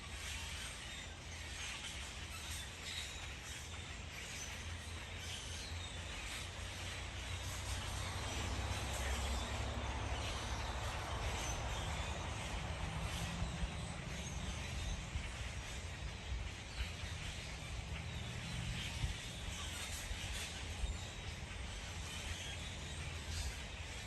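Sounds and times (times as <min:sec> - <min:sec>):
low rumble and hiss: 0:00.0 - 0:24.0.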